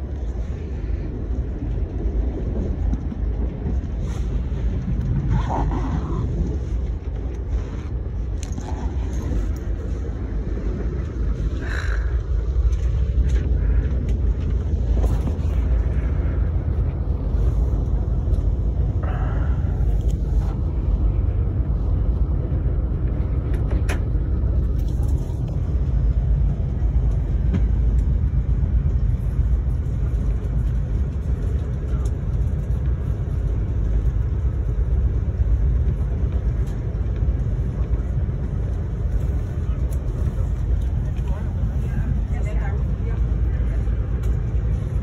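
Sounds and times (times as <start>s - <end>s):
train car rumbling on track: 0.0s - 45.0s.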